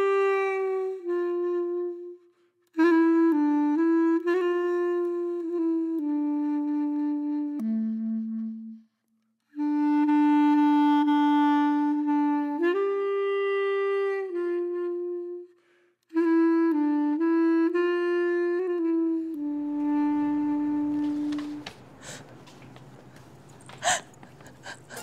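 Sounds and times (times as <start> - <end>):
slow wind instrument melody: 0.0 - 25.0.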